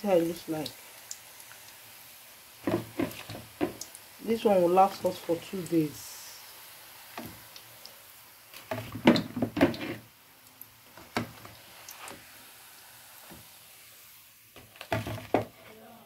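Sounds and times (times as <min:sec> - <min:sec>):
frying oil sizzling: 0:00.0 - 0:16.0.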